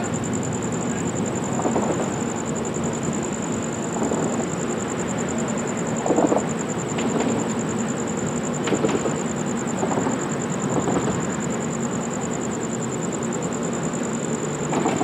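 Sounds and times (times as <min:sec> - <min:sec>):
train idling low rumble: 0:00.0 - 0:15.0.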